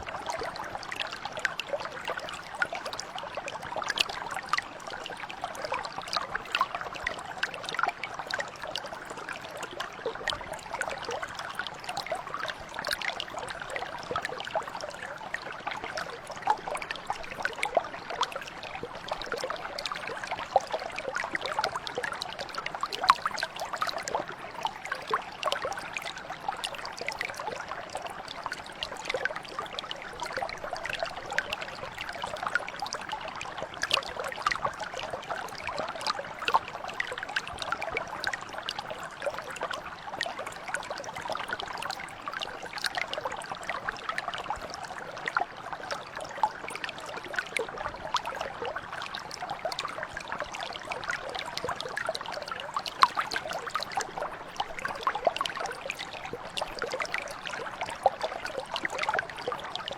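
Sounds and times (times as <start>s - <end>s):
mountain brook babbling: 0.0s - 59.9s.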